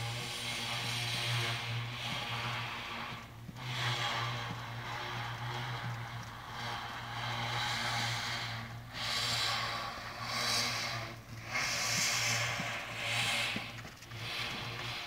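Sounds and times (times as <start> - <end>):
steady low hum: 0.0 - 15.0
horse breathing noisily: 0.2 - 15.0.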